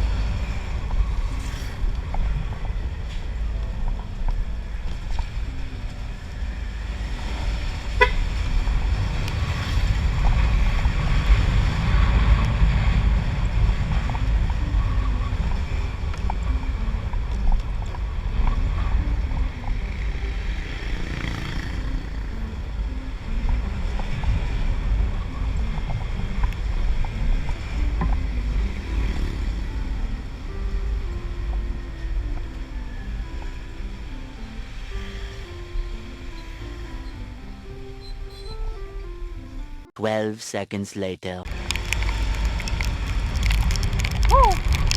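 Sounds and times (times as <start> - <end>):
wind buffeting microphone: 0.0 - 37.8
faint scooter engine: 0.0 - 38.4.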